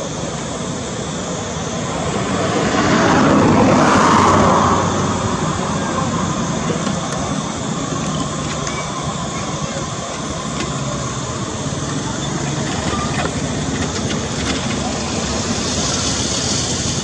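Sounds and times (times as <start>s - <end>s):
engine rushing past: 0.6s - 17.0s.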